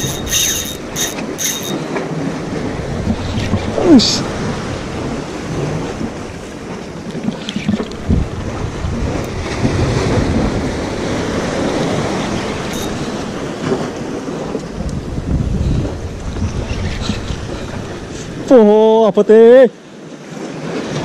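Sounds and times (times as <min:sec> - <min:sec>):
sea washing: 0:00.0 - 0:18.8
wind buffeting microphone: 0:00.0 - 0:18.8.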